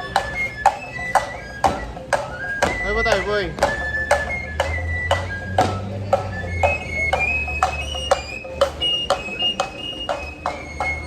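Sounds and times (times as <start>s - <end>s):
high piping flute melody: 0.0s - 11.0s.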